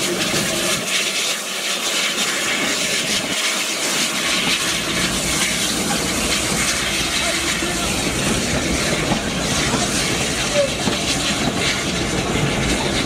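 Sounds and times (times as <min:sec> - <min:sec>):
steady rushing hiss of steam: 0:00.0 - 0:13.0
steam locomotive passing: 0:00.0 - 0:13.0.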